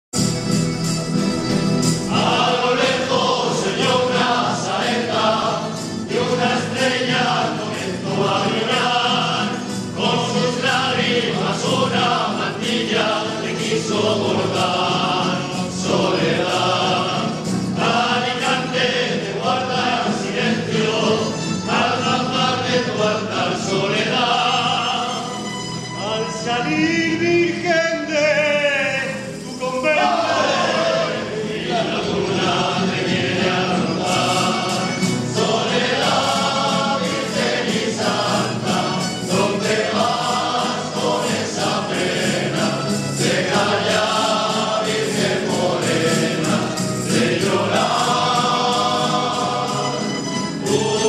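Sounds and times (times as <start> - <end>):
strummed guitars: 0.2 - 51.0
men singing together: 2.0 - 25.4, 26.0 - 51.0.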